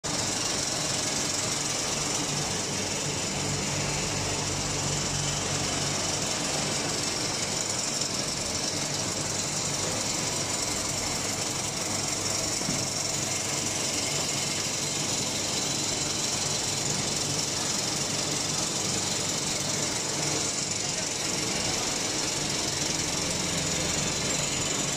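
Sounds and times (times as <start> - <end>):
dense mechanical machinery noise: 0.1 - 24.9.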